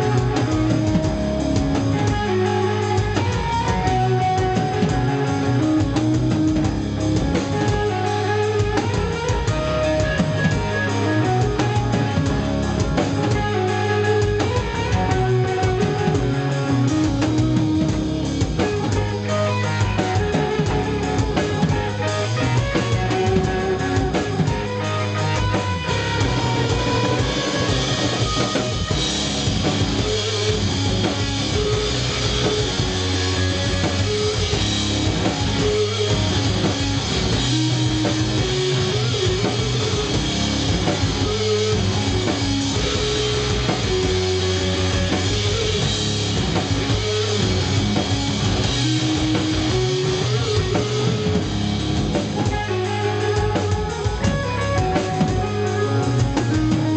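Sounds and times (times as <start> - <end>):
drum kit: 0.0 - 56.9
electric guitar: 0.0 - 56.9.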